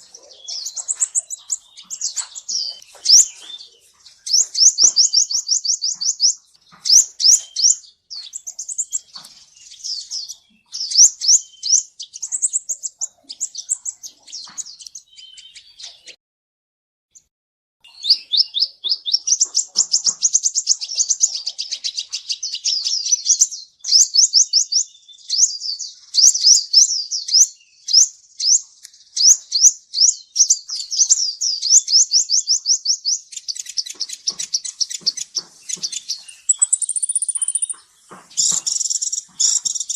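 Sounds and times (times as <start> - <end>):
sunbird singing high chittering trills: 0.0 - 16.2, 17.8 - 39.9.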